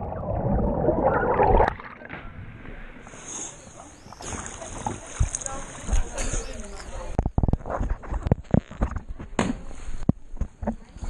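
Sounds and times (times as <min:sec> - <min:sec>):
water churning and gurgling: 0:00.0 - 0:09.2.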